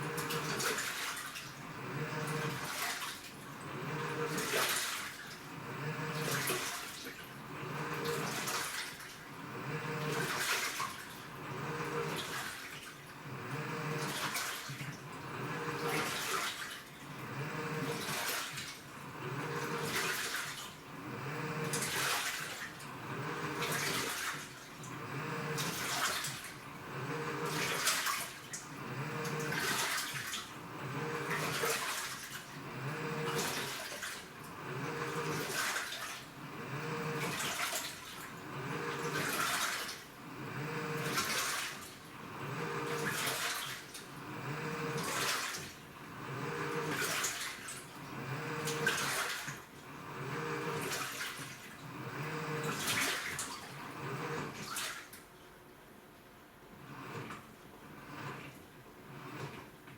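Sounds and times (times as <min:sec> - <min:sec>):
water sloshing: 0:00.0 - 0:55.3
washing machine motor humming: 0:00.0 - 0:59.9.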